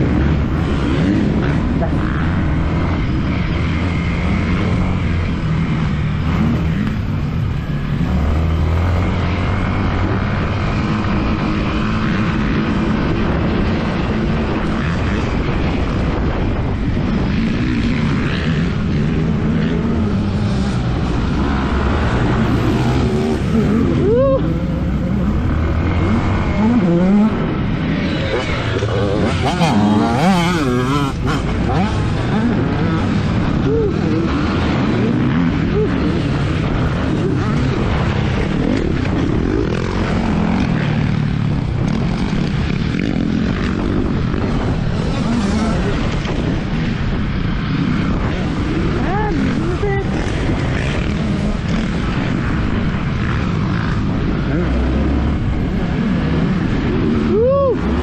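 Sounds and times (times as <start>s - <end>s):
motorcycle engine revving: 0.0s - 58.0s
steady rushing noise: 0.0s - 58.0s.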